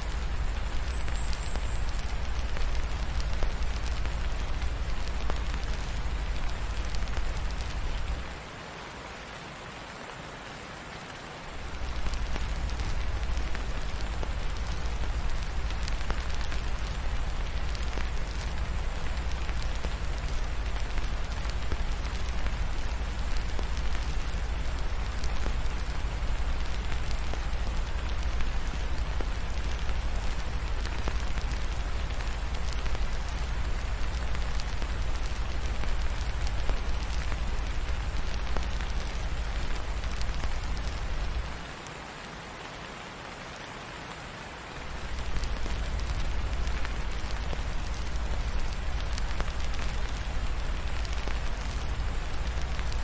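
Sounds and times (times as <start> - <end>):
wood fire crackling: 0.0 - 8.5, 11.0 - 41.9, 44.8 - 53.0
steady rain falling: 0.0 - 53.0.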